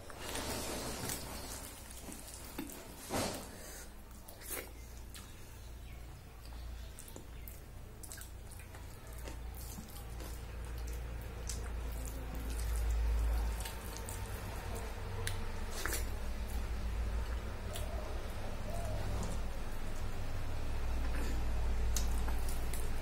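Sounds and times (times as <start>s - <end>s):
steady low hum: 0.0s - 23.0s
chewing: 0.1s - 23.0s.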